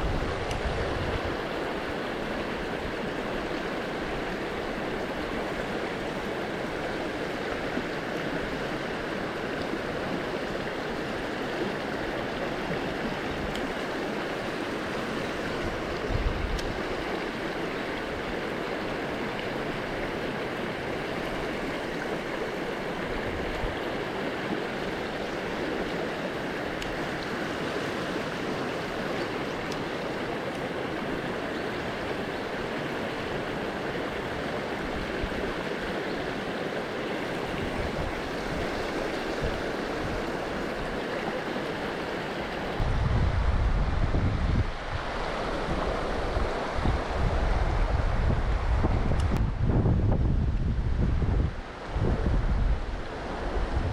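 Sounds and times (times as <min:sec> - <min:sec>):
river water flowing: 0:00.0 - 0:53.9.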